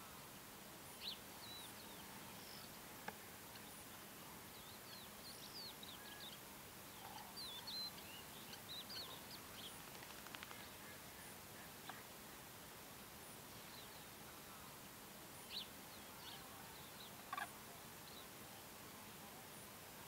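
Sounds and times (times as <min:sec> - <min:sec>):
small birds chirping: 0:00.0 - 0:12.6, 0:13.2 - 0:20.0
steady background hiss: 0:00.0 - 0:20.0.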